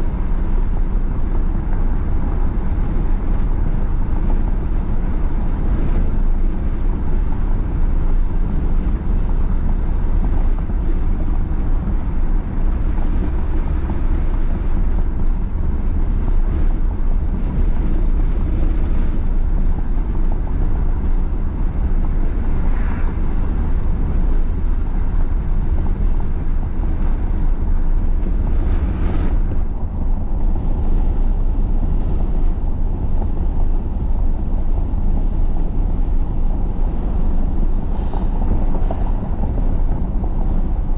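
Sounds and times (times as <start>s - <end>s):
vehicle road and wind noise: 0.0s - 40.9s.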